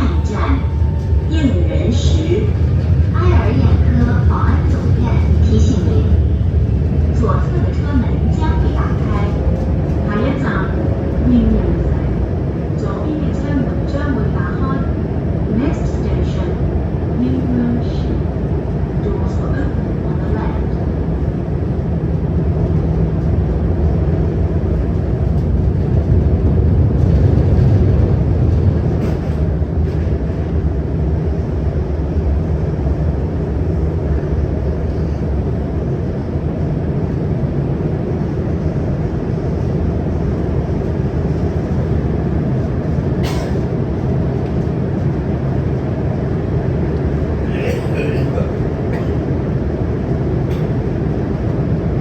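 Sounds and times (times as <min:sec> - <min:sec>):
electric train rumble on board: 0:00.0 - 0:52.0.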